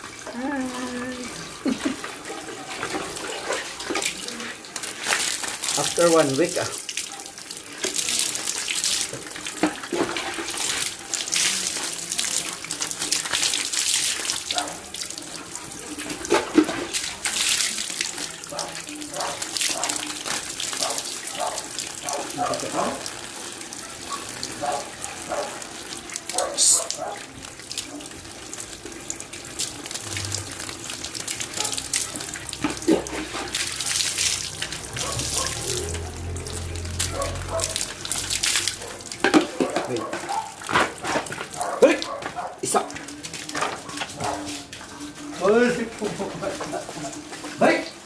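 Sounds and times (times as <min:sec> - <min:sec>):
water running from a tap: 0:00.0 - 0:48.0.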